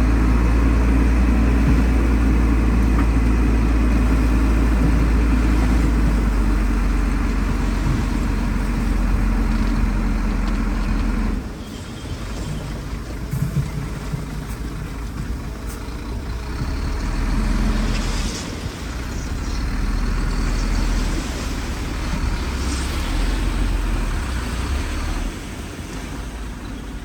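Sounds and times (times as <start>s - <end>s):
diesel machinery engine rumble: 0.0s - 27.0s.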